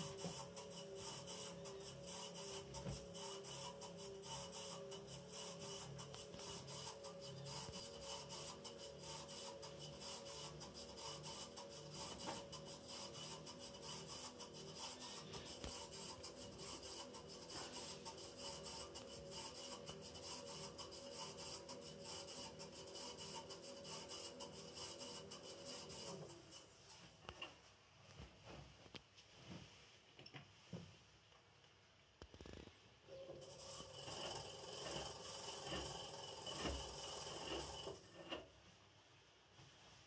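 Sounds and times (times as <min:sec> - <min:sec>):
washing machine grinding noise: 0:00.0 - 0:26.9, 0:33.1 - 0:38.6.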